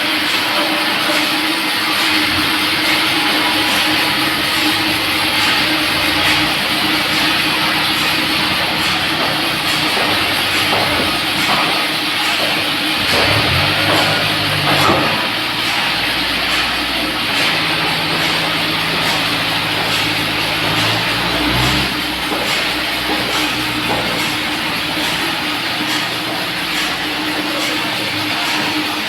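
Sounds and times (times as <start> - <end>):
sawmill machinery running: 0.0 - 29.0.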